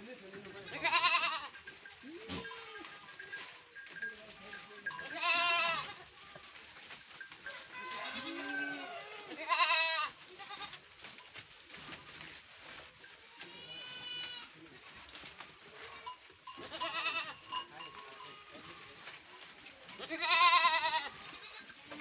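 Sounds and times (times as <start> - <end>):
goats bleating: 0.4 - 6.7, 7.4 - 10.9, 13.2 - 19.3, 19.9 - 22.0.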